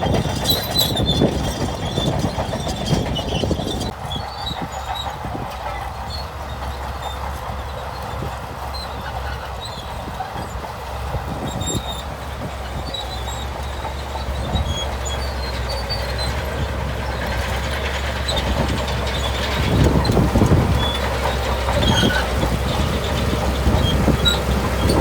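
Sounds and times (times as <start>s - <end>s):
bulldozer diesel engine rumbling: 0.0s - 25.0s
steel tracks clattering: 0.0s - 25.0s.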